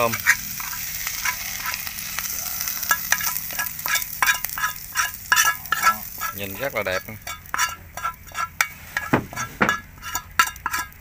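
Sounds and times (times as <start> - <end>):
metal utensil scraping a pan: 0.0 - 11.0
oil sizzling in a pan: 0.0 - 11.0.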